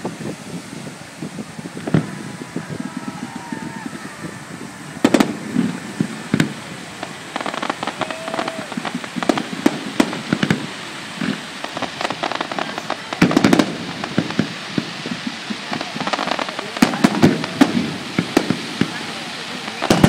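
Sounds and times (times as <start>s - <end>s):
firework crackling: 0.0s - 20.0s
firework shells bursting: 1.7s - 20.0s.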